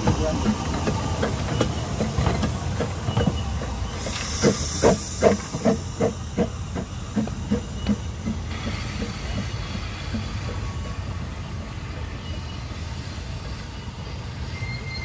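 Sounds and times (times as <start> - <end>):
rhythmic train knocks: 0.0 - 12.8
steam hiss: 0.0 - 15.0
steam train rumble: 0.0 - 15.0.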